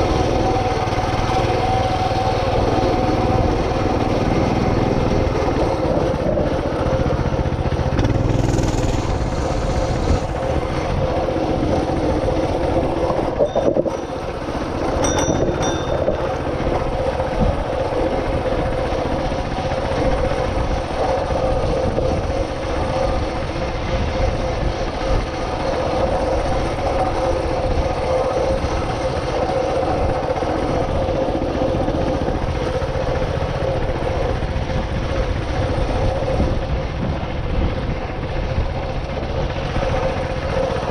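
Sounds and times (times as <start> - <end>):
rattle of riding on gravel: 0.0 - 40.9
small engine humming: 0.0 - 40.9.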